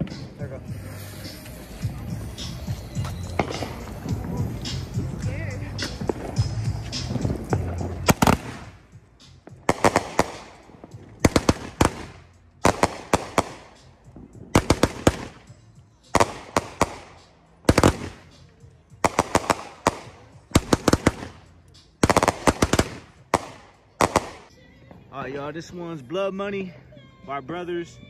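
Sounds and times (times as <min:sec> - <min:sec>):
firework shots bursting: 0:00.0 - 0:24.5.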